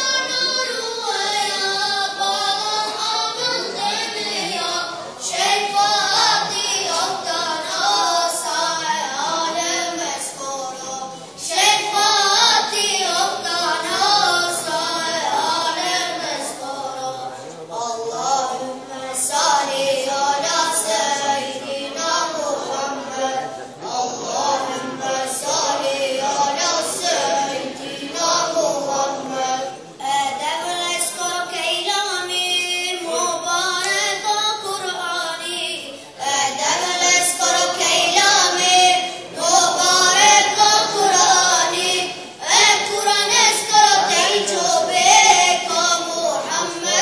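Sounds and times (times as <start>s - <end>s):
unaccompanied devotional chanting: 0.0s - 47.0s.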